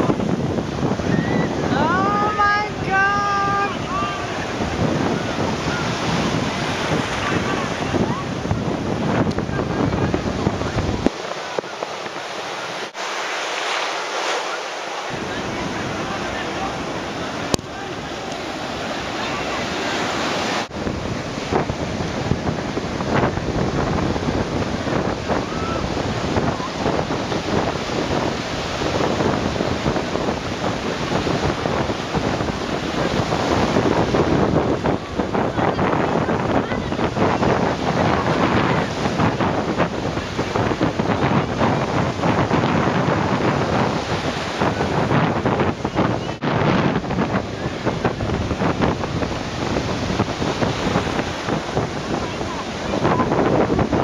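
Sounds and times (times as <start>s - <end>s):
wind buffeting microphone: 0.0s - 14.1s, 14.7s - 54.0s
surf breaking on beach: 0.0s - 54.0s.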